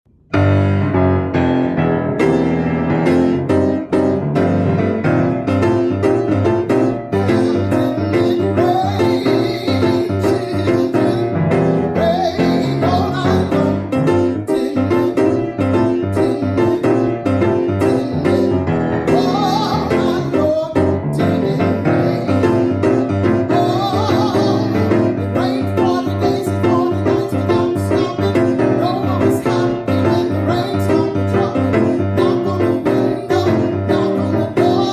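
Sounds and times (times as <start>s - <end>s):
piano chords: 0.1s - 34.9s
person singing: 5.6s - 34.9s.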